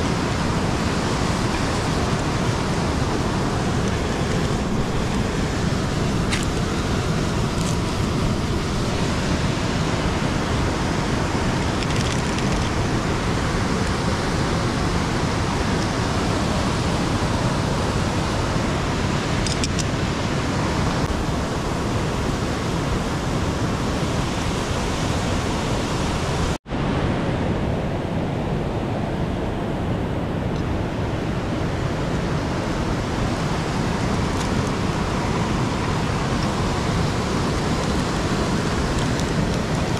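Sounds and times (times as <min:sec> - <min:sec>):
fast-flowing river water: 0:00.0 - 0:39.9.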